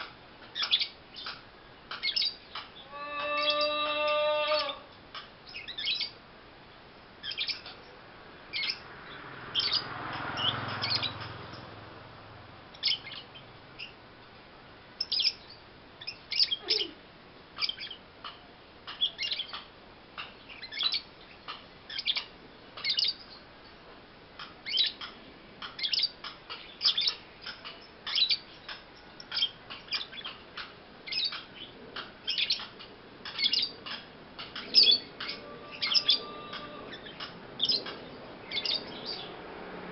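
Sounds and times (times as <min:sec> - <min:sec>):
lovebird chirping: 0:00.5 - 0:06.2, 0:07.2 - 0:11.8, 0:12.7 - 0:14.0, 0:15.0 - 0:17.0, 0:17.6 - 0:18.0, 0:18.9 - 0:23.8, 0:24.4 - 0:39.3.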